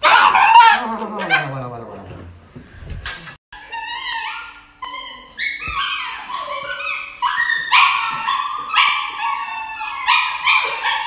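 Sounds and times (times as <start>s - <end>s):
dog yelping and howling: 0.0s - 1.7s, 3.6s - 11.0s.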